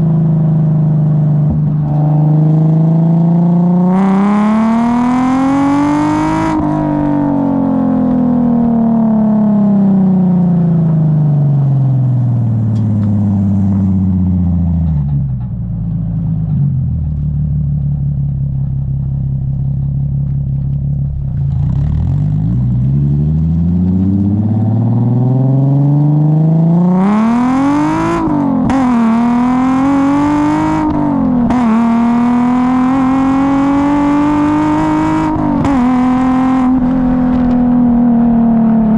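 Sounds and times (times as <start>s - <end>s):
car engine rumbling and revving: 0.0s - 38.9s.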